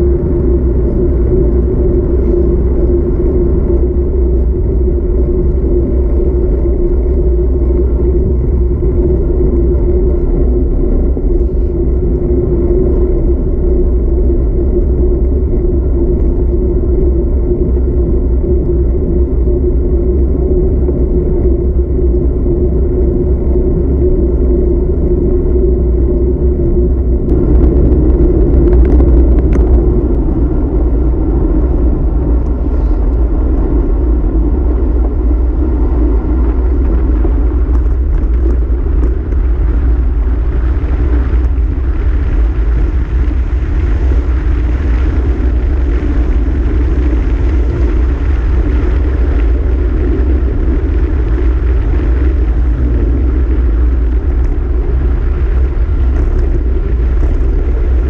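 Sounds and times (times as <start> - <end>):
bicycle tyres humming on road: 0.0 - 58.0
wind buffeting microphone: 0.0 - 58.0.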